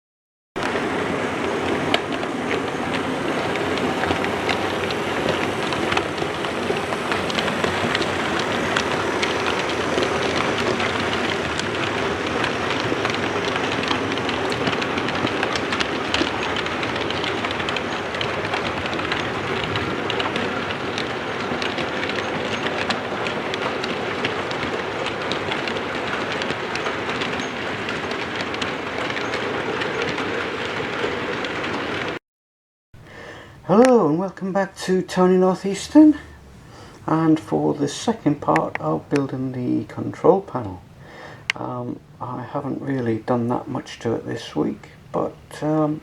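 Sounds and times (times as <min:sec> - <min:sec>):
model train rolling rumble: 0:00.6 - 0:32.2, 0:33.0 - 0:46.0
wheels clicking over rail joints: 0:00.6 - 0:32.2, 0:33.0 - 0:46.0.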